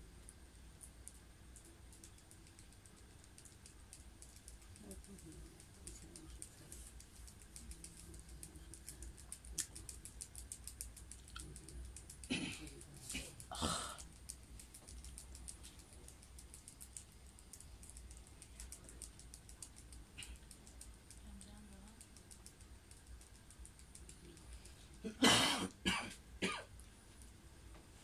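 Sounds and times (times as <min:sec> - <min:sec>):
faint rapid clicking: 0:00.0 - 0:28.0
low steady hum: 0:00.0 - 0:28.0.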